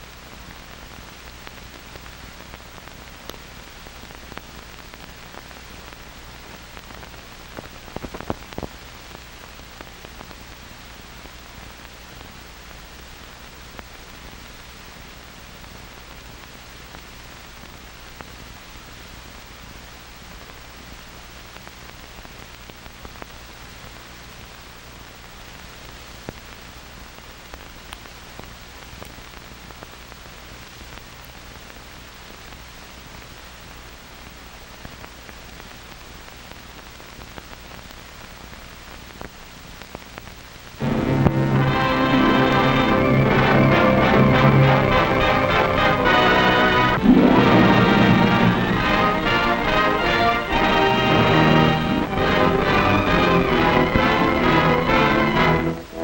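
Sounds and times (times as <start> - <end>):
old film soundtrack hiss and crackle: 0.0 - 56.0.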